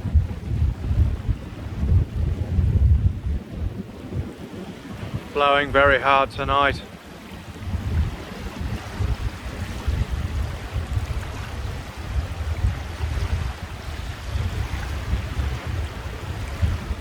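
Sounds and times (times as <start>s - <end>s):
choppy water: 0.0s - 17.0s
wind gusting across microphone: 0.0s - 17.0s.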